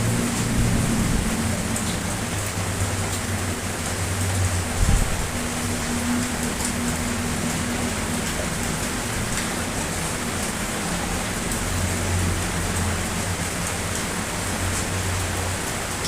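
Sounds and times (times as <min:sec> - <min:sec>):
steady rain hiss: 0:00.0 - 0:16.0
raindrop ticks: 0:00.1 - 0:16.0.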